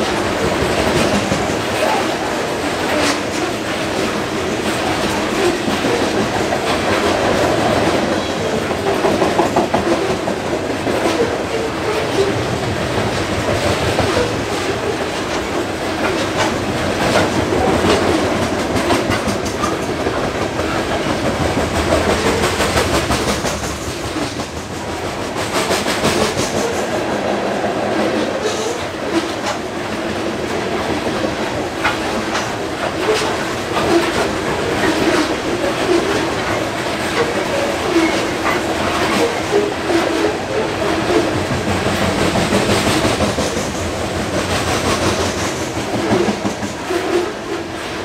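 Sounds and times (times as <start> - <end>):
train wheels on rails: 0.0 - 48.0.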